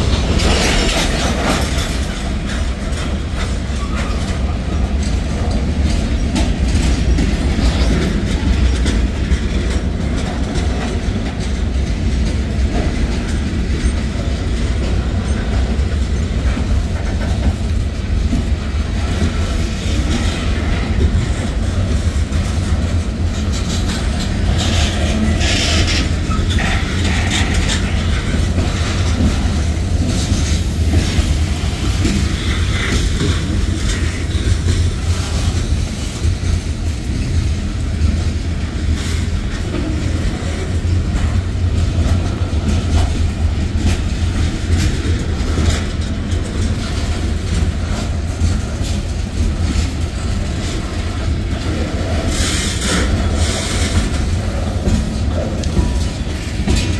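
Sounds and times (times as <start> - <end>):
clickety-clack over rail joints: 0.0 - 56.9
train wheels rumbling on rails: 0.0 - 56.9.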